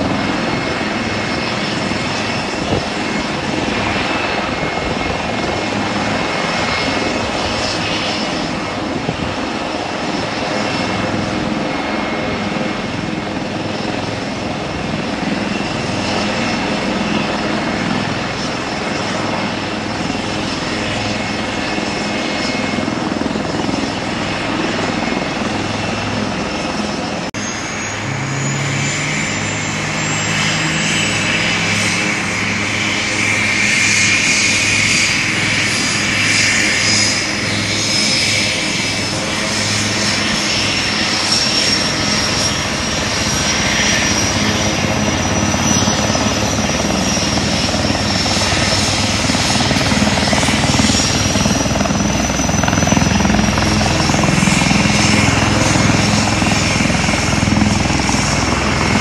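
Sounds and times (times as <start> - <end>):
helicopter engine whine and rumble: 0.0 - 59.0.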